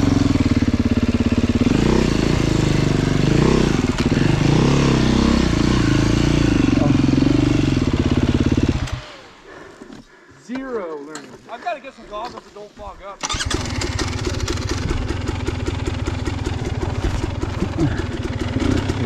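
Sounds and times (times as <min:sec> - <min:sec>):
dirt bike engine chugging: 0:00.0 - 0:09.9, 0:13.2 - 0:19.0.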